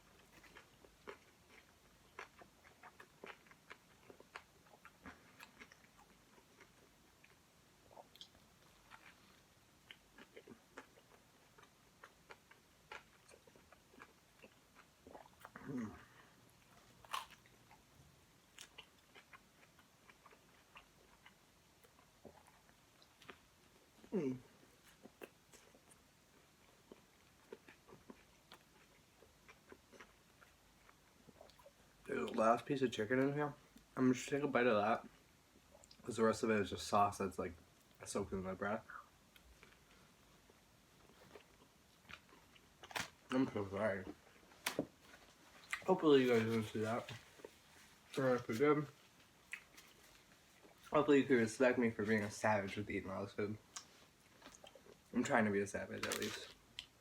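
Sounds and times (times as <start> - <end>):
mouth chewing food: 0.0 - 32.4, 38.9 - 51.0, 53.6 - 55.2.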